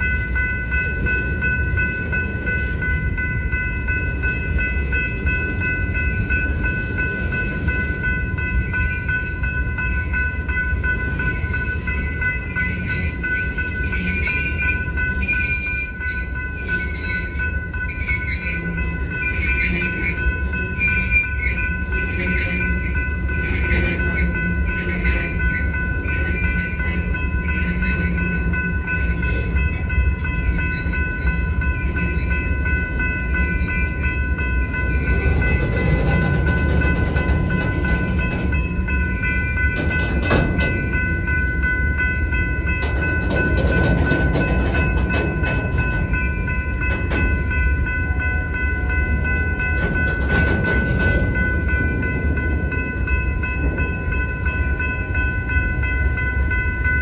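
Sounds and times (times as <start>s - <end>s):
crossing warning bell ringing: 0.0s - 57.0s
sharp train clanks: 0.0s - 57.0s
train wheels rumbling on rail: 0.0s - 57.0s.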